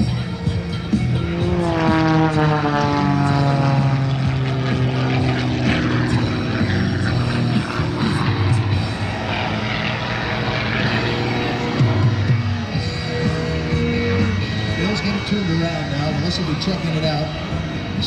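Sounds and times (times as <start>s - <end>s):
propeller airplane flying past: 0.0s - 18.0s.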